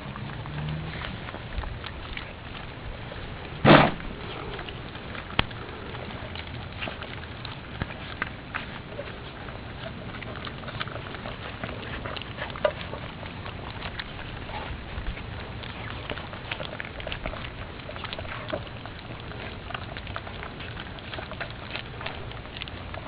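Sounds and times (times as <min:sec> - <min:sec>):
puppy claws scratching and tapping: 0:04.1 - 0:23.0.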